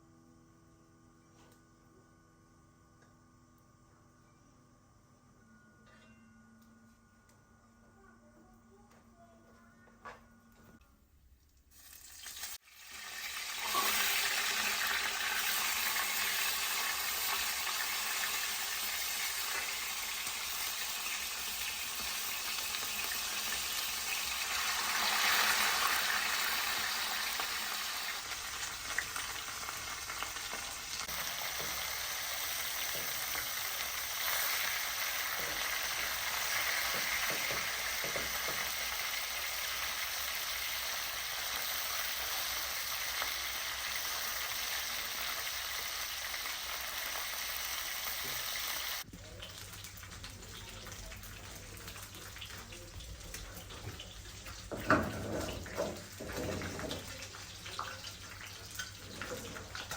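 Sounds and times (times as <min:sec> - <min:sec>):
food sizzling in hot oil: 0:11.7 - 0:59.9.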